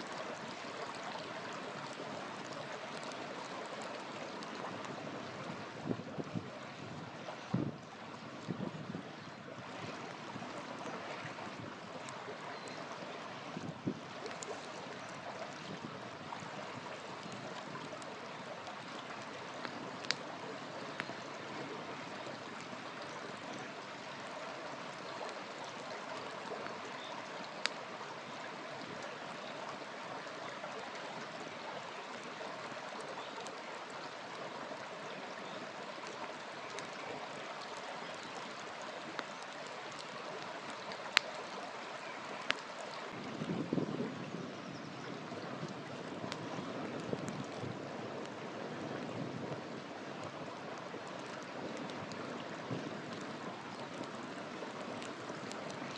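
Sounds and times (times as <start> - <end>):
campfire crackling and popping: 0.0 - 43.9, 45.2 - 55.9.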